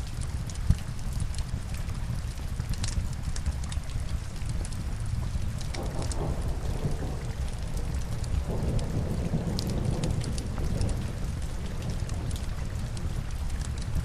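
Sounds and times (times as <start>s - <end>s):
log fire crackling: 0.0s - 14.0s
steady rain: 0.0s - 14.0s.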